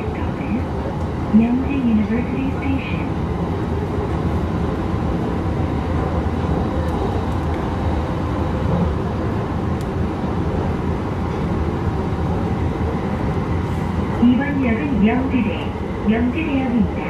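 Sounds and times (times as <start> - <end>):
rumble of train wheels on rails: 0.0 - 17.0.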